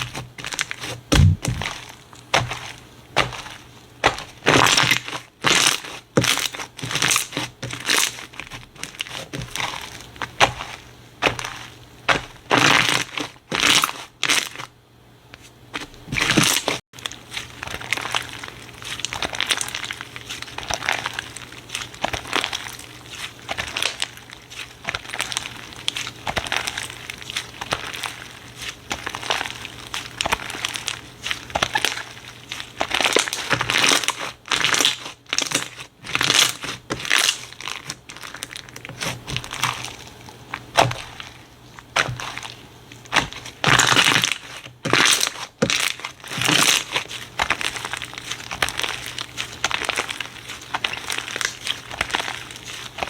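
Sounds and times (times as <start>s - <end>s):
slime crackling and popping: 0.0s - 14.6s, 16.2s - 53.0s
slime squelching: 0.0s - 14.7s, 15.4s - 53.0s.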